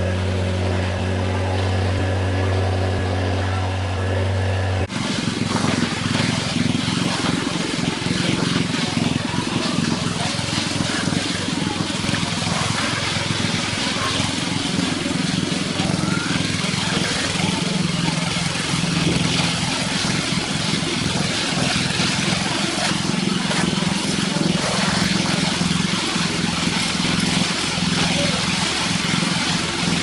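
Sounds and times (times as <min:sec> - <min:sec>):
heavy machinery engine running: 0:00.0 - 0:30.0
hiss of work noise: 0:04.8 - 0:30.0.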